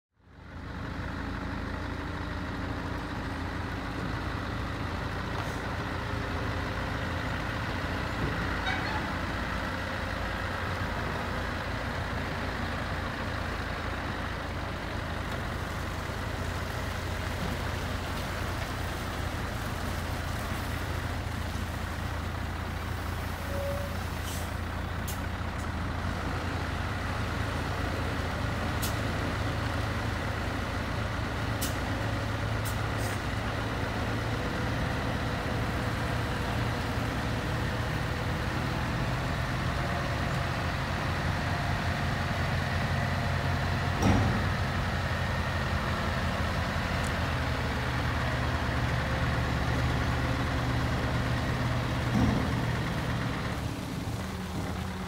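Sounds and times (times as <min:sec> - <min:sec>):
truck diesel engine running: 0:00.2 - 0:55.0.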